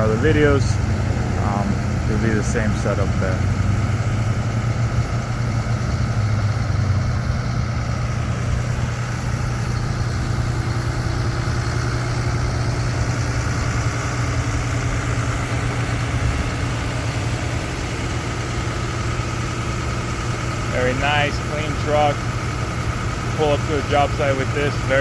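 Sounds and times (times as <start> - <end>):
diesel truck idling: 0.0 - 25.0.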